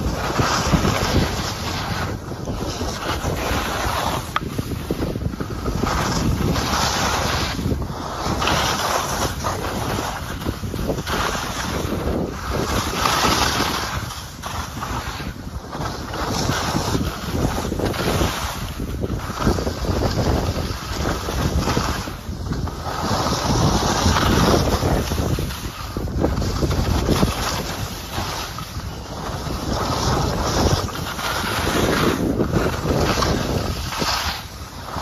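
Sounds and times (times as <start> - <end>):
skis scraping over snow: 0.0 - 35.0
wind rushing over microphone: 0.0 - 35.0.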